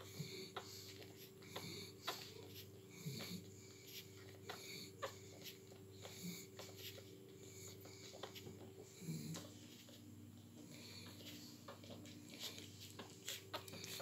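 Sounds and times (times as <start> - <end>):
puppies suckling clicks: 0.0 - 14.0
steady low hum: 0.0 - 14.0.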